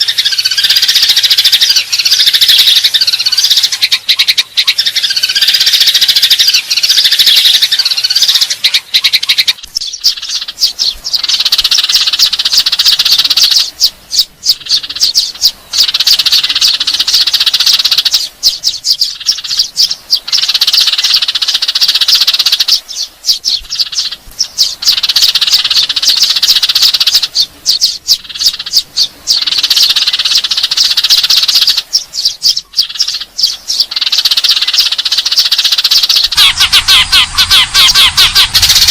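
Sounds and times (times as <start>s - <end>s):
sparrows chirping rapidly: 0.0s - 38.9s.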